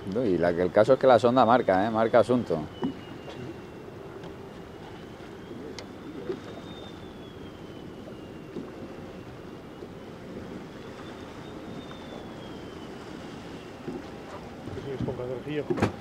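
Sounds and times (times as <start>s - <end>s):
boat motor humming: 0.0s - 16.0s
faint high whine: 0.0s - 16.0s.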